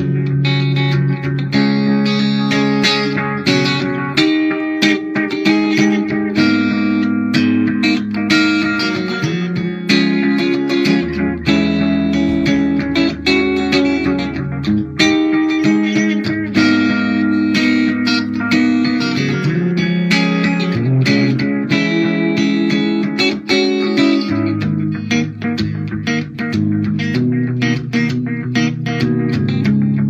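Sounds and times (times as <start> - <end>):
clean electric guitar: 0.0 - 30.0.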